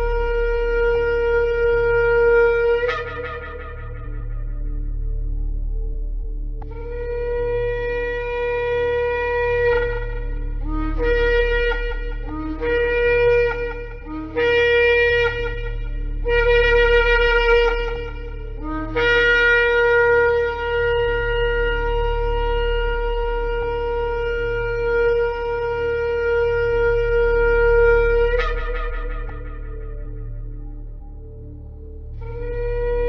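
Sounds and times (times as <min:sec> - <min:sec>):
shofar blasts: 0:00.0 - 0:05.9, 0:06.7 - 0:31.6, 0:32.2 - 0:33.0
steady low hum: 0:00.0 - 0:33.0.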